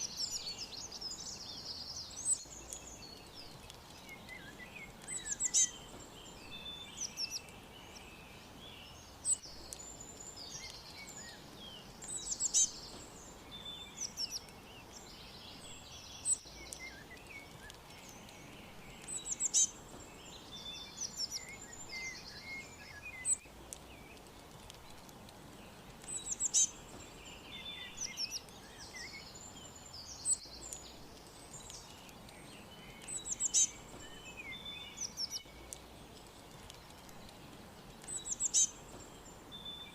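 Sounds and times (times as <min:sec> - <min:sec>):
small songbirds chirping: 0:00.0 - 0:39.9
steady background hiss: 0:00.0 - 0:39.9.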